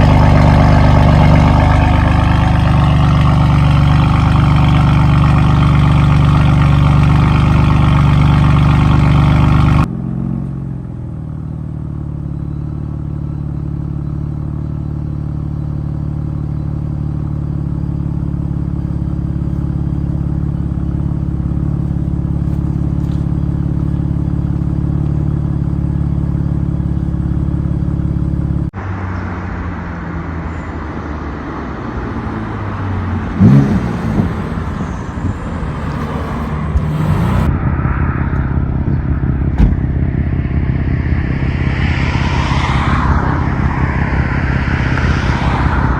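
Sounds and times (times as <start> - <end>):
car exhaust droning: 0.0 - 28.6, 32.8 - 45.9.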